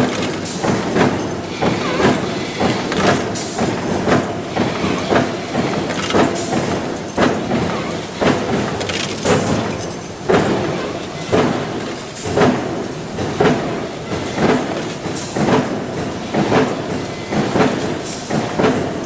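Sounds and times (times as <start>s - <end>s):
steady mechanical noise: 0.0s - 19.0s.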